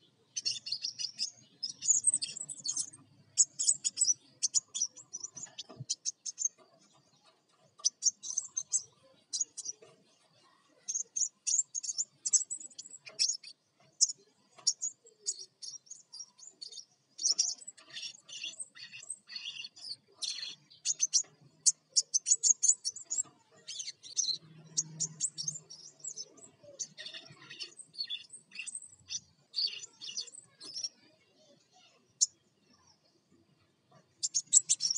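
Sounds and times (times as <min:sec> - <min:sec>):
bird chirping and twittering: 0:00.0 - 0:34.9.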